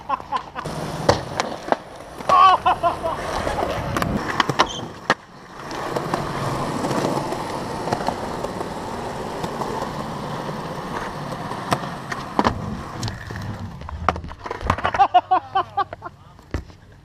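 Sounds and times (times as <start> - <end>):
skateboard clacks: 0.0 - 17.0
skateboard wheels rolling on concrete: 0.0 - 17.0.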